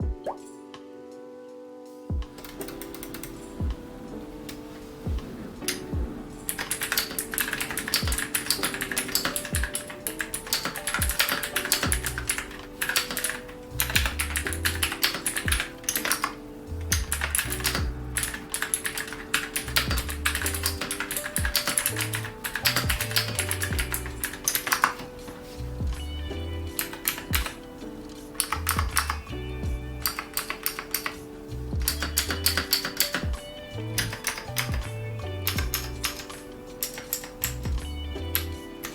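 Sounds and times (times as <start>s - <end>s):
mechanical keyboard typing: 2.4s - 3.4s, 5.6s - 25.6s, 26.7s - 29.3s, 30.0s - 38.9s.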